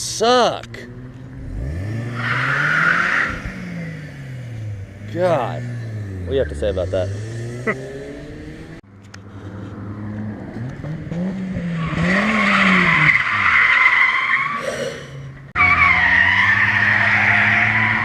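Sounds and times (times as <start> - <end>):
car engine revving: 0.6 - 18.0.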